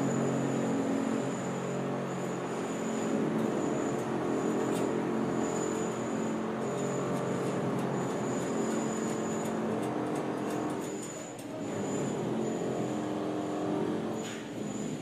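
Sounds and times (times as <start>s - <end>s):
motor drone: 0.0s - 15.0s.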